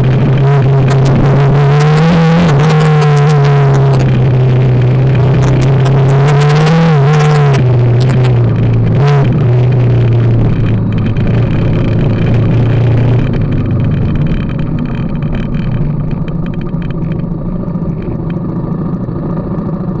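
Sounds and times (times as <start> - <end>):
scattered clicks: 0.0 - 19.7
motorcycle engine running: 0.0 - 20.0.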